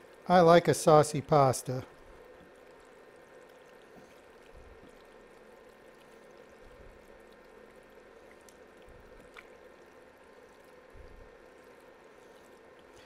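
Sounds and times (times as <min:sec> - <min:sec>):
steady low hum: 0:00.0 - 0:13.0
wet squelching of stirred pasta: 0:01.9 - 0:13.0.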